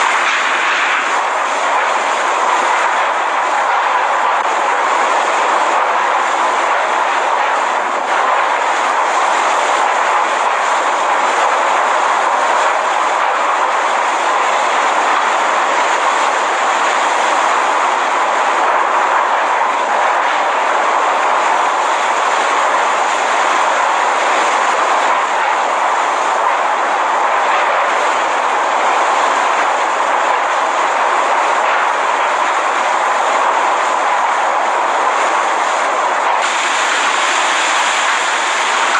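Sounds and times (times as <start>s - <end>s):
driving rain: 0.0s - 38.9s
hurricane winds: 0.0s - 38.9s.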